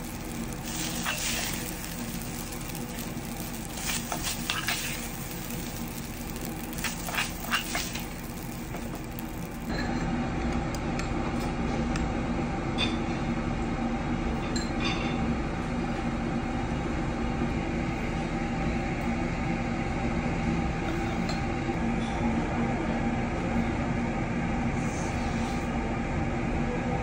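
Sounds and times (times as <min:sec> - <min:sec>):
low hum and rumble: 0:00.0 - 0:27.0.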